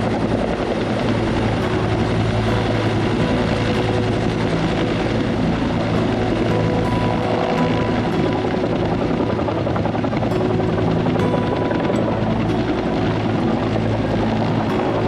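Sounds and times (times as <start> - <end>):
helicopter engine and rotor whirr: 0.0 - 15.0.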